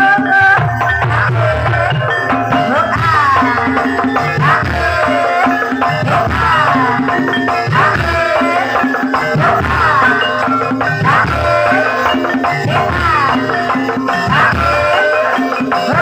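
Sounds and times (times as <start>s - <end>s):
drums and percussion: 0.0s - 16.0s.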